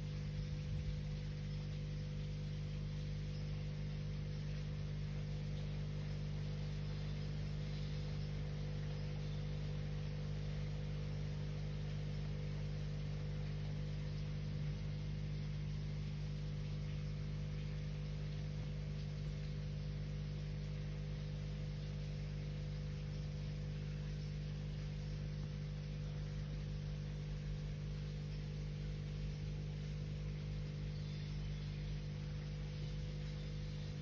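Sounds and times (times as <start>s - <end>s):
low hum of held tones: 0.0s - 34.0s.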